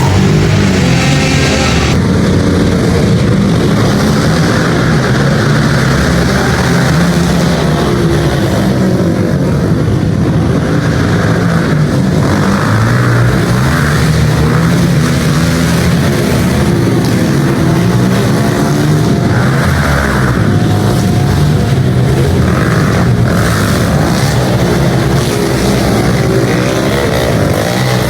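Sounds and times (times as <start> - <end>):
pit bike engines revving: 0.0 - 28.0.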